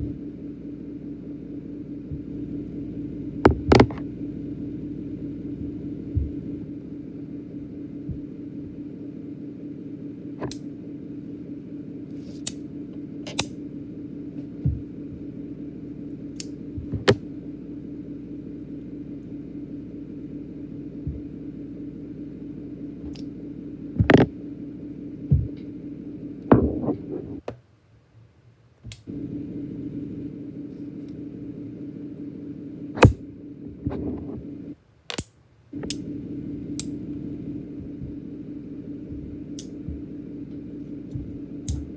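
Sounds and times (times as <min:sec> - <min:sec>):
low hum: 0:00.0 - 0:41.9.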